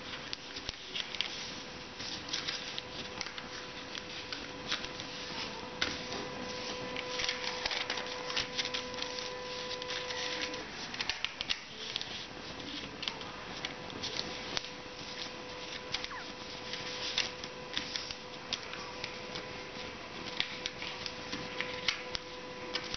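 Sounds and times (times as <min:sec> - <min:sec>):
paper rustling and crinkling: 0:00.0 - 0:22.9
steady hum: 0:00.0 - 0:22.9.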